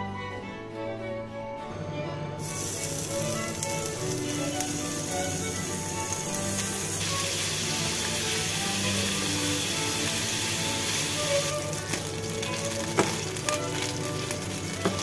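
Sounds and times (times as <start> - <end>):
background music: 0.0 - 15.0
meat sizzling in a pan: 2.4 - 15.0.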